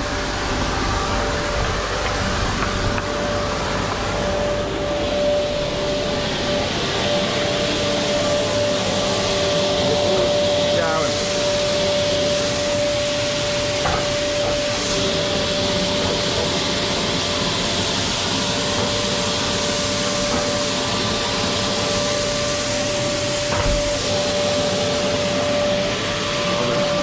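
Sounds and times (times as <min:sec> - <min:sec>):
grain blower whining: 0:00.0 - 0:27.0.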